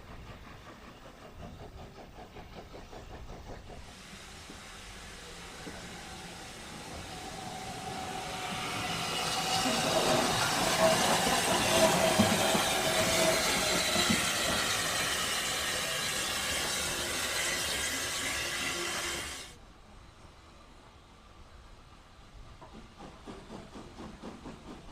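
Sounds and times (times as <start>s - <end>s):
steam locomotive hissing: 0.0s - 19.6s, 22.0s - 24.9s.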